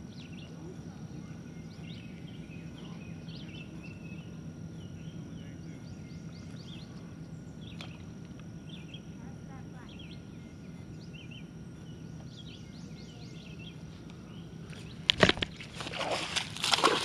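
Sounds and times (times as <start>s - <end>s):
low steady rumble: 0.0s - 17.0s
songbirds chirping: 0.0s - 17.0s.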